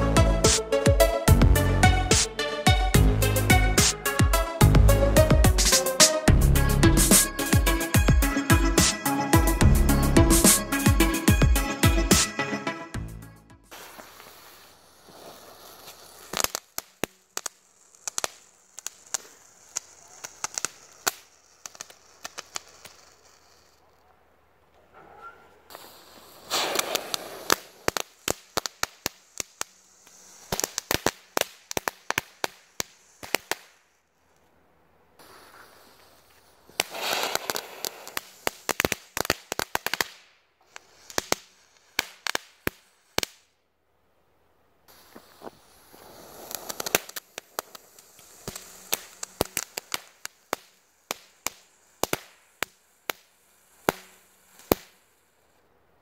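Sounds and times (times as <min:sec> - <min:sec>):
firework crackling pops: 0:00.0 - 0:24.0, 0:25.6 - 0:34.5, 0:35.2 - 0:43.6, 0:44.9 - 0:55.7
firework fountain hissing: 0:00.0 - 0:24.0, 0:25.6 - 0:34.1, 0:35.2 - 0:43.6, 0:44.8 - 0:55.7.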